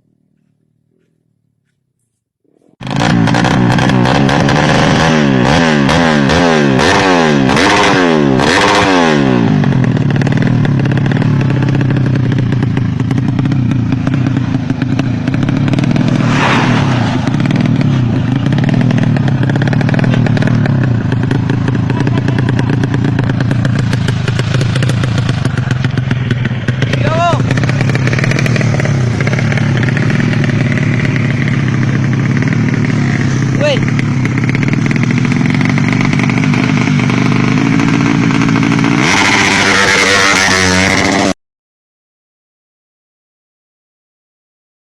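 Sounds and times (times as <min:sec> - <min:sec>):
motorcycle engine revving: 0:02.6 - 0:41.4.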